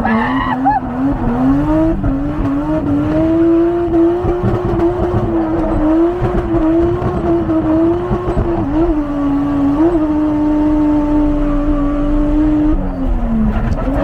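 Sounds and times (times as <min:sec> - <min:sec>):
car engine revving high: 0:00.0 - 0:14.0.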